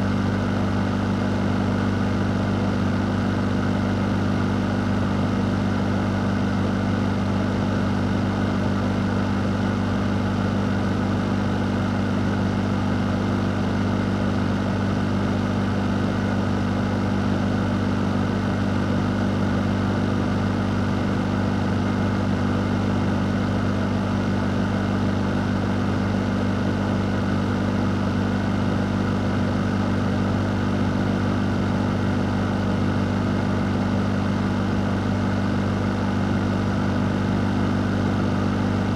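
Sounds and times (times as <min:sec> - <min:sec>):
fan running: 0:00.0 - 0:38.9.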